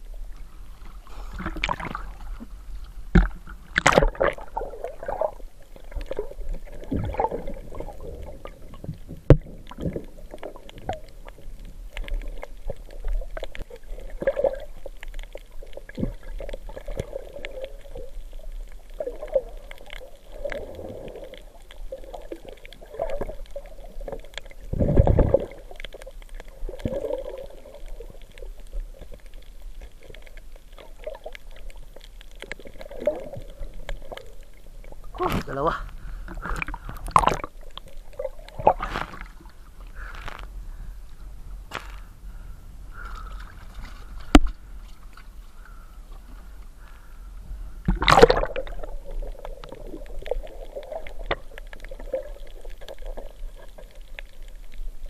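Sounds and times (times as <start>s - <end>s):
muffled underwater gurgling: 0.0s - 55.0s.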